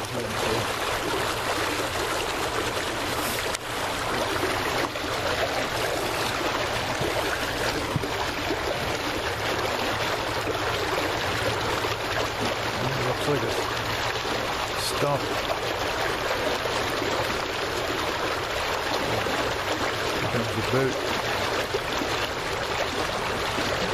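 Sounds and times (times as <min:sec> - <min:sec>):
water rushing and lapping: 0:00.0 - 0:23.9.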